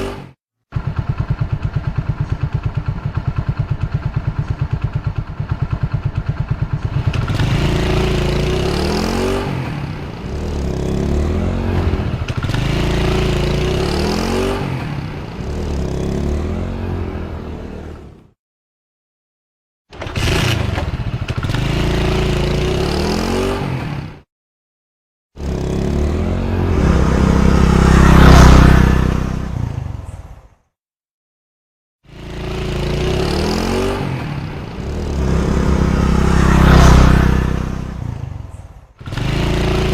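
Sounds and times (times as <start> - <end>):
motorcycle engine accelerating: 0.0 - 18.4, 19.9 - 24.3, 25.4 - 30.3, 32.1 - 39.9
motorcycle passing by: 0.0 - 18.4, 20.2 - 24.3, 25.4 - 30.4, 32.1 - 39.9.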